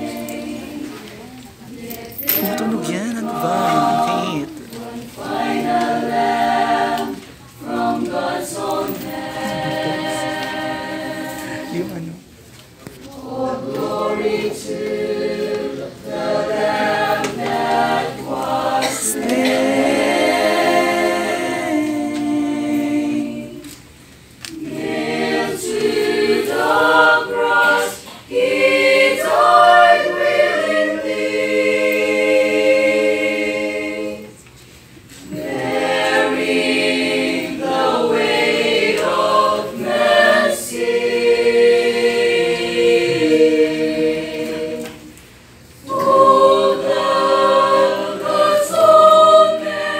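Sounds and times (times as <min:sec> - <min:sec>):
choir singing a hymn: 0:00.0 - 0:49.9.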